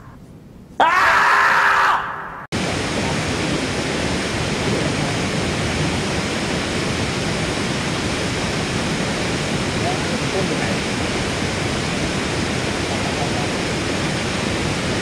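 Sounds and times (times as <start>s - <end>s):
roar of falling water: 2.6s - 15.0s.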